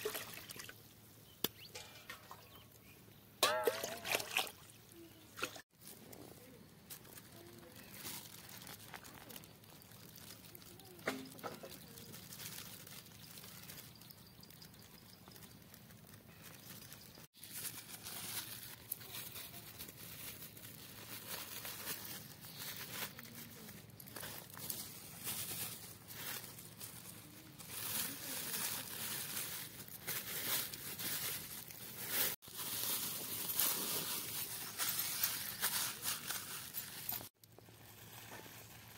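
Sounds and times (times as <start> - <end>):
plastic bag crinkling: 5.6 - 38.9.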